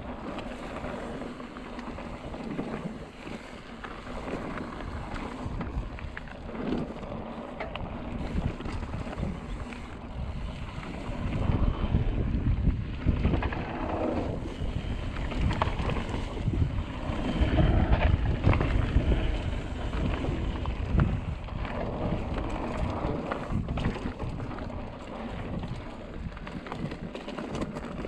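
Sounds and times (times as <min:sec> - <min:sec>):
bike rattling over trail: 0:00.0 - 0:28.0
wind buffeting microphone: 0:00.0 - 0:28.0.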